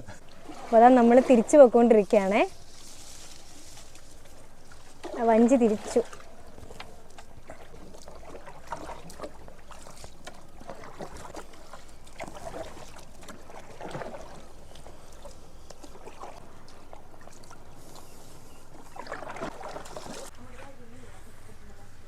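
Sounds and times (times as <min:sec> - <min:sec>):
water splashing from oars: 0:00.0 - 0:20.3.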